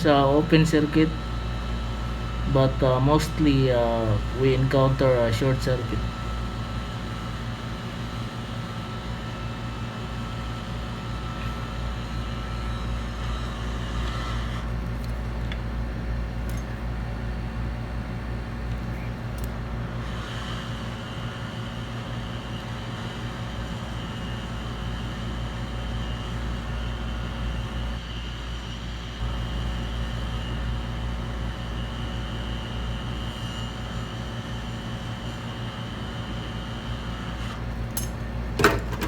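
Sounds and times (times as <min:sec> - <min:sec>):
electrical equipment hum: 0:00.0 - 0:28.0, 0:29.2 - 0:39.0.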